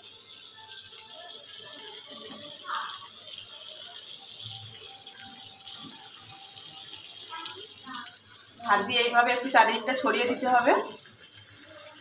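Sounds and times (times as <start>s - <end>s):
oil sizzling in a pot: 0.0s - 12.0s.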